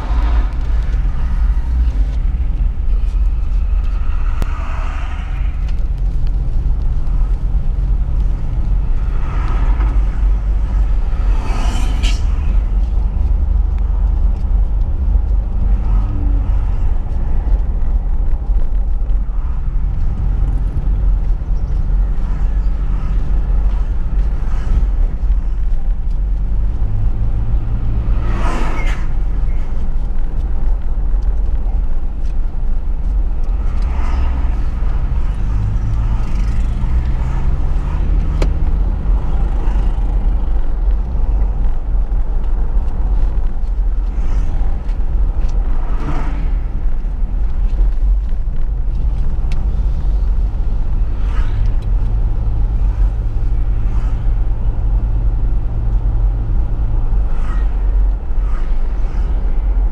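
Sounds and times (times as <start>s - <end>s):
car cabin road rumble: 0.0s - 59.9s
passing traffic rushes: 0.0s - 59.9s.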